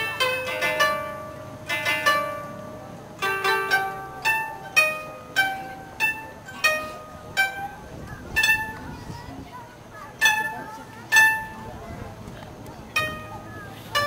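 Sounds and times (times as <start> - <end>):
plucked koto: 0.0 - 14.0.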